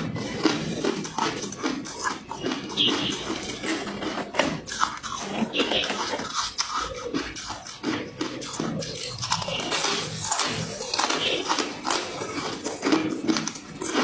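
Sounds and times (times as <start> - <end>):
person crunching ice: 0.0 - 14.0.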